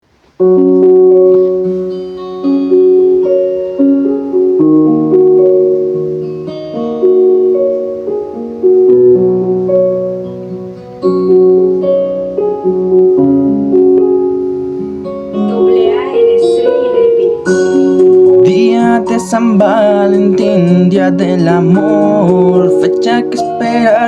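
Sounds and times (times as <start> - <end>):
piano chords and melody: 0.2 - 24.0.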